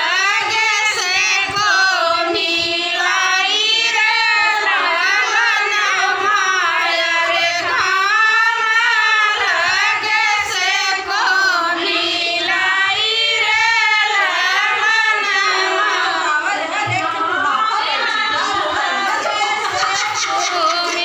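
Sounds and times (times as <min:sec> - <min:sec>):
woman singing unaccompanied: 0:00.0 - 0:21.0.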